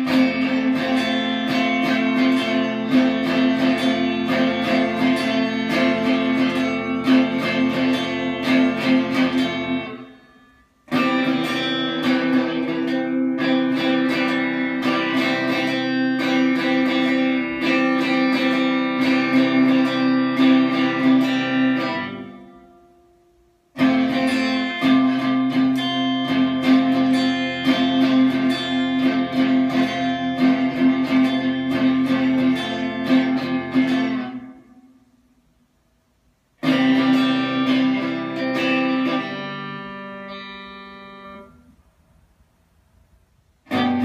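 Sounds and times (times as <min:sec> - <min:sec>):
electric guitar solo: 0:00.0 - 0:35.1, 0:36.6 - 0:41.8, 0:43.6 - 0:44.0.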